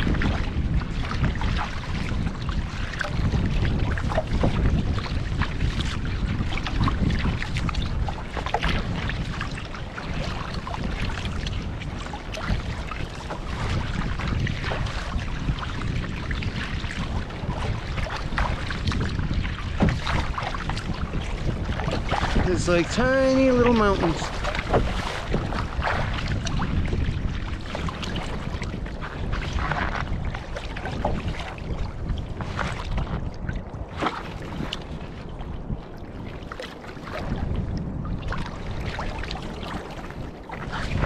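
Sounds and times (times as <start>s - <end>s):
water splashing against kayak: 0.0s - 41.0s
wind buffeting microphone: 0.0s - 41.0s.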